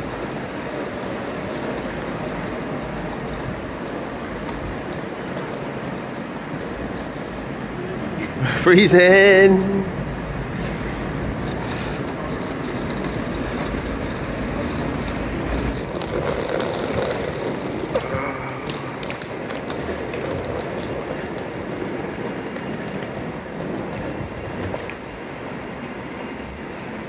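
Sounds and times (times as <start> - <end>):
suitcase wheels rattling: 0.0 - 27.0.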